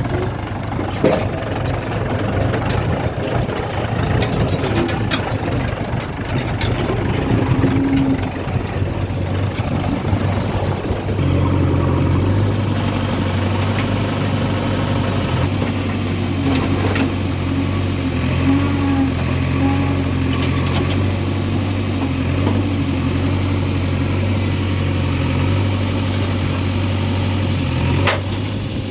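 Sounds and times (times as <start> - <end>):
diesel engine droning: 0.0 - 28.9.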